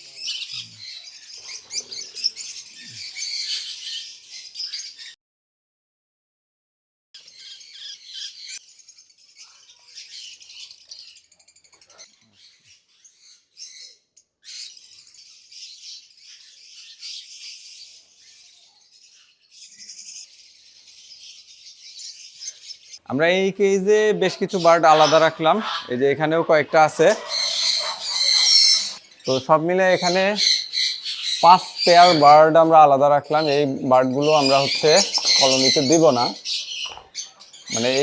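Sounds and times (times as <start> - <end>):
lovebirds chirping and squawking: 0.0 - 5.2, 7.2 - 38.0.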